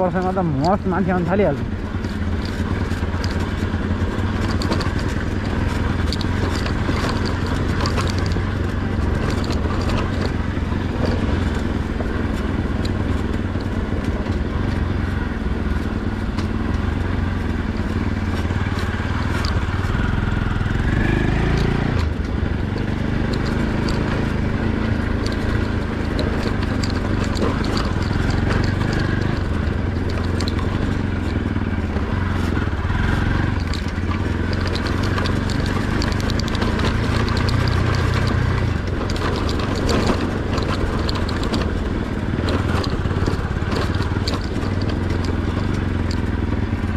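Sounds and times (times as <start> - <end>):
light clicks and knocks: 0.0 - 46.9
motorcycle engine running: 0.0 - 46.9.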